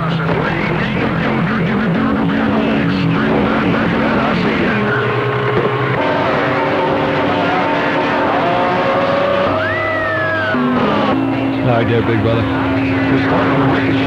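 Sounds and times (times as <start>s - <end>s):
radio static: 0.0s - 9.5s, 10.8s - 14.0s
whistling radio tones: 0.0s - 14.0s.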